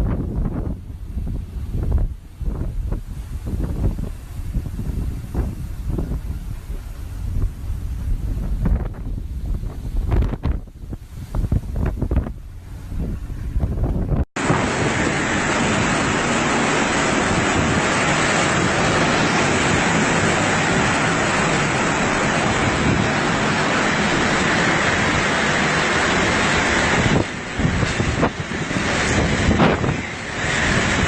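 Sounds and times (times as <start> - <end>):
strong wind blowing against microphone: 0.0 - 31.0.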